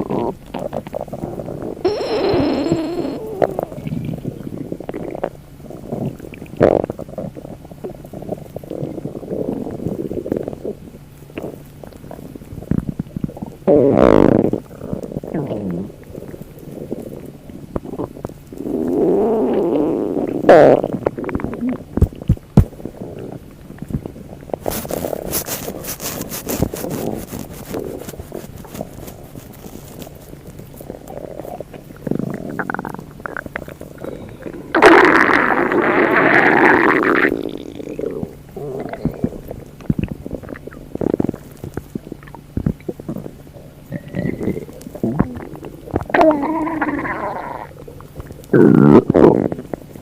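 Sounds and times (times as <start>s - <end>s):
stomach rumbling: 0.0s - 50.0s.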